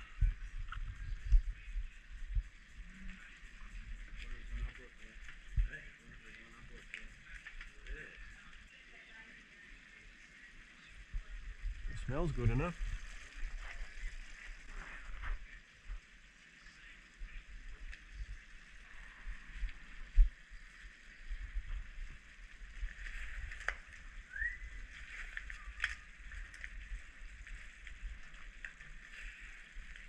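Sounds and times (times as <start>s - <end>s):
sauce simmering with hiss: 0.0s - 30.0s.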